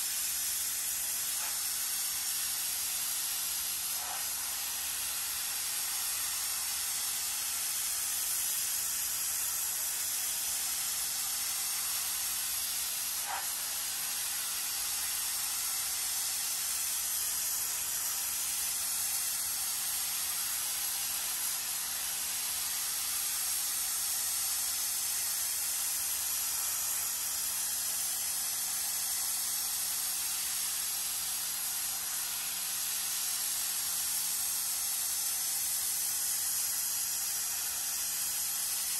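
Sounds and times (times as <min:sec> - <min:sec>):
pressure washer spraying floor mats: 0:00.0 - 0:38.9.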